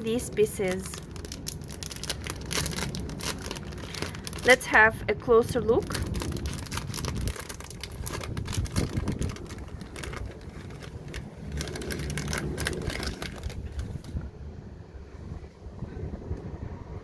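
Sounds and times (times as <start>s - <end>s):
packaging rustling: 0.0s - 14.3s
low background rumble: 0.0s - 17.0s.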